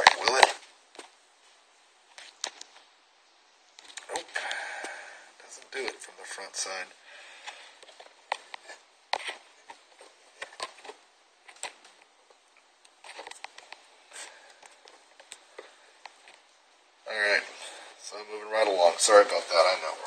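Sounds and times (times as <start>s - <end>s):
faint room hiss: 0.0s - 20.0s.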